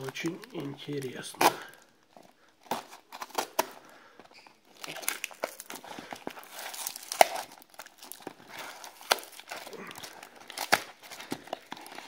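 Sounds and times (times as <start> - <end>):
packaging crinkling and crackling: 0.0 - 12.0.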